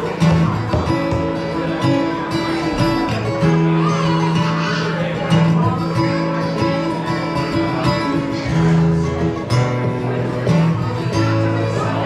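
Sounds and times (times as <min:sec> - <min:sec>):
plucked acoustic guitar: 0:00.0 - 0:12.0.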